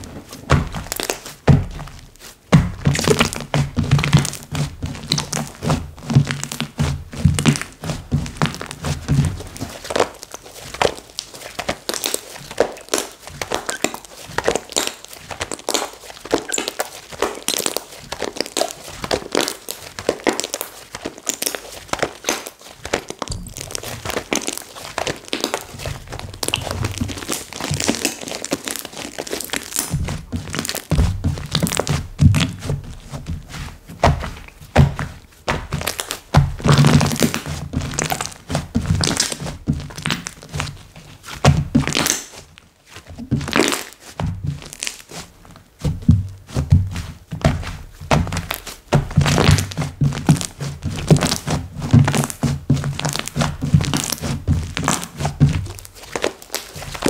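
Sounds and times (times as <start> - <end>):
slime crackling and popping: 0.0 - 33.1, 34.0 - 42.6, 43.2 - 45.2, 47.5 - 57.0.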